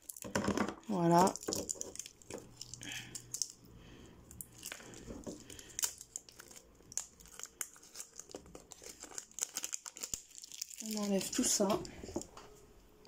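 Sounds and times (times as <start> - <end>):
plastic wrapping crinkling and tearing: 0.0 - 3.6, 4.3 - 12.3.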